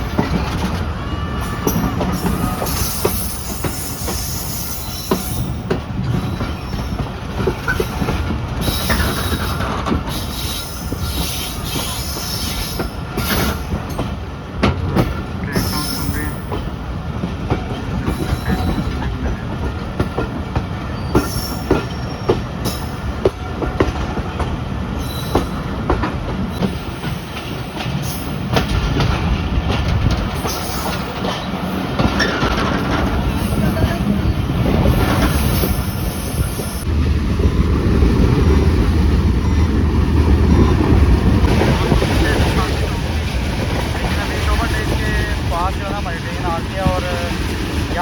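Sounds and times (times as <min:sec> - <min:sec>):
rail joint clicks: 0:00.0 - 0:48.0
train wheels rumbling: 0:00.0 - 0:48.0.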